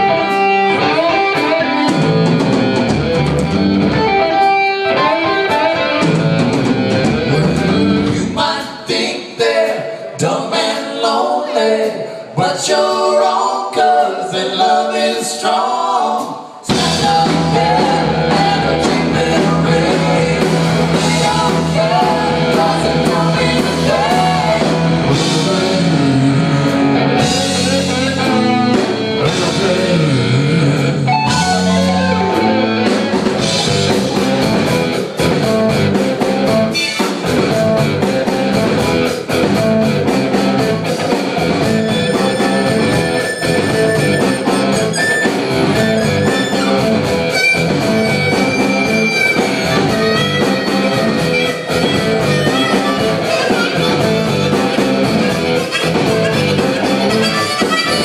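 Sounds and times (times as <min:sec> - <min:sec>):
electric guitar lead: 0:00.0 - 0:08.4, 0:16.7 - 0:58.0
rock band playing live: 0:00.0 - 0:58.0.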